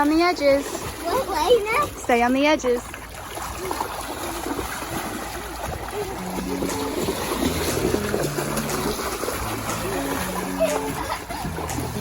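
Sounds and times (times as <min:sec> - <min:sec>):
water sloshing in a pool: 0:00.0 - 0:12.0.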